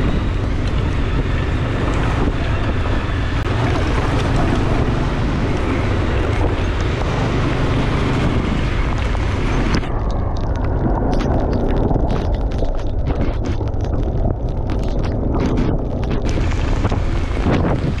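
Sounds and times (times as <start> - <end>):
motorcycle engine running: 0.0 - 18.0
wind rumble on microphone: 0.0 - 18.0.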